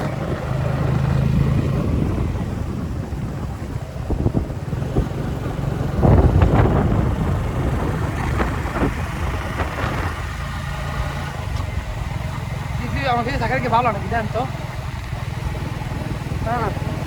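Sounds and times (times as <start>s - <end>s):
motor engine running: 0.0s - 17.0s
wind buffeting microphone: 0.0s - 17.0s.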